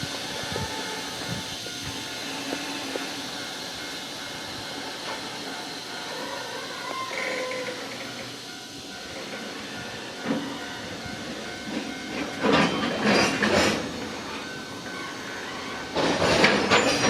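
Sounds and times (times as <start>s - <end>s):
train wheels clacking over rail joints: 0.0s - 6.2s, 6.8s - 17.0s
train running noise: 0.0s - 17.0s.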